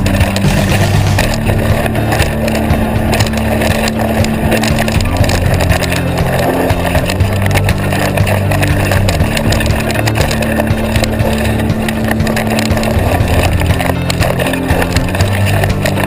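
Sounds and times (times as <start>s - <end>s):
bike rattling over bumps: 0.0s - 16.0s
bike tyres on dirt trail: 0.0s - 16.0s.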